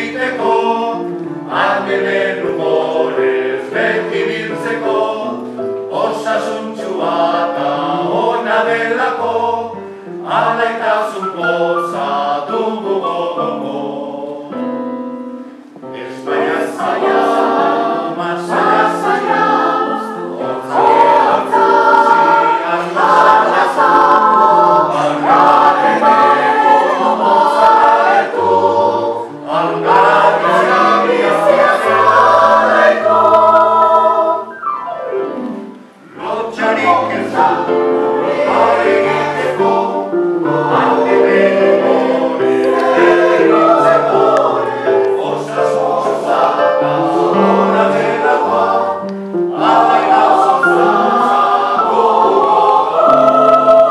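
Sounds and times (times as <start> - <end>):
mixed choir singing: 0.0 - 14.8, 15.8 - 34.6, 36.0 - 53.9.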